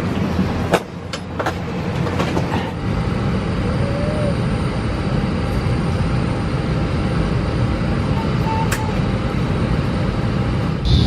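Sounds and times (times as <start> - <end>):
aircraft cabin hum: 0.0 - 11.0.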